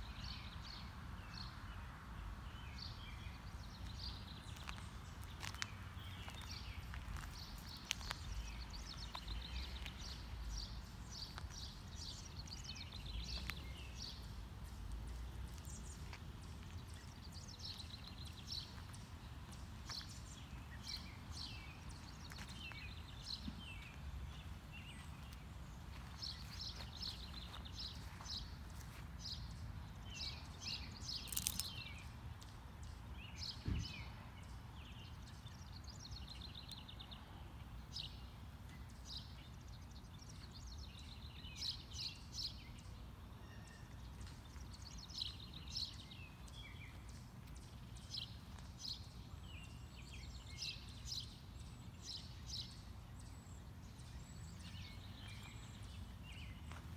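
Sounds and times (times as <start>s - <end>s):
songbirds chirping and trilling: 0.0s - 56.9s.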